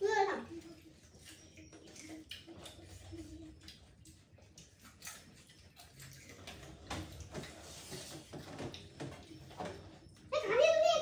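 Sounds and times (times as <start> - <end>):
crunching and chewing: 0.8 - 10.3.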